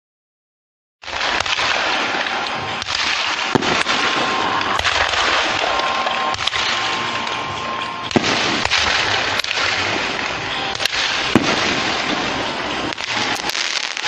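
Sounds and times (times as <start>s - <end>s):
fireworks crackling: 1.0s - 14.0s
fireworks sharp bangs: 1.0s - 14.0s.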